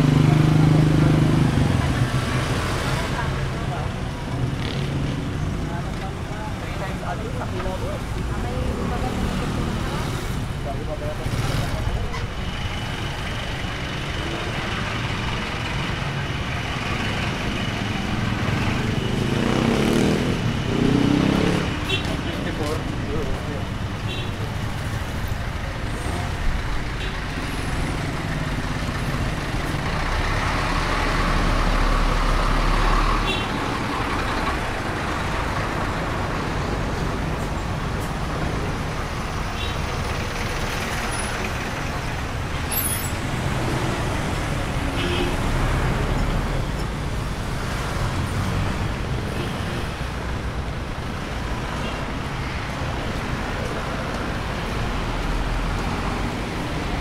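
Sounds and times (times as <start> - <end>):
street traffic: 0.0 - 57.0.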